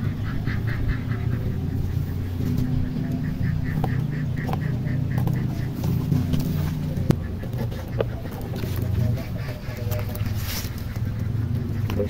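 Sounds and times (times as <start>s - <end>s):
ducks quacking: 0.0s - 12.0s
steady low hum: 0.0s - 12.0s.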